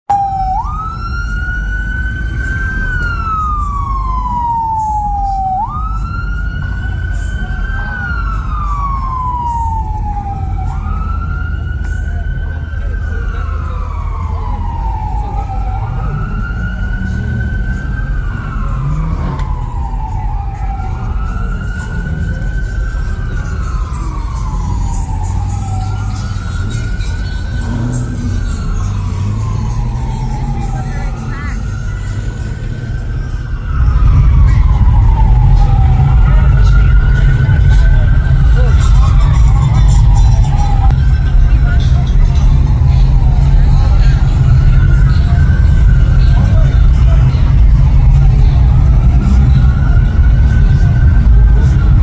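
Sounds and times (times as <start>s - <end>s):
emergency vehicle siren wailing: 0.1s - 52.0s
street traffic rumble: 0.1s - 52.0s.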